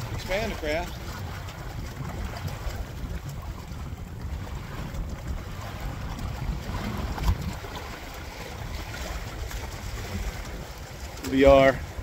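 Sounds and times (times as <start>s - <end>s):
water lapping against hull: 0.0s - 12.0s
wind on microphone: 0.0s - 12.0s.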